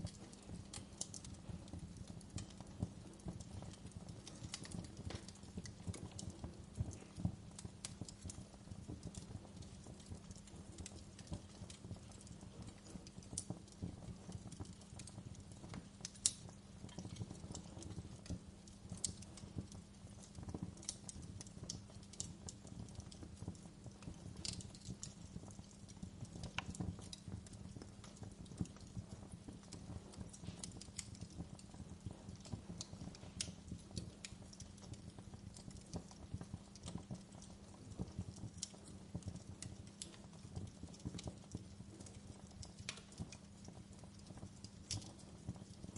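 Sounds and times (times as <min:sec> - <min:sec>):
fire popping: 0:00.0 - 0:45.9
wood fire crackling: 0:00.0 - 0:45.9.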